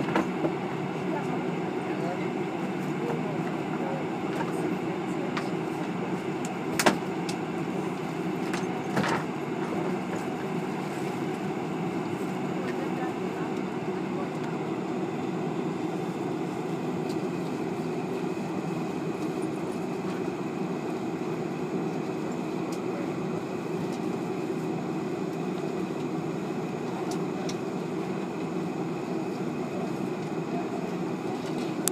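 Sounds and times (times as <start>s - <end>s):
airliner cabin rumble: 0.0s - 31.9s.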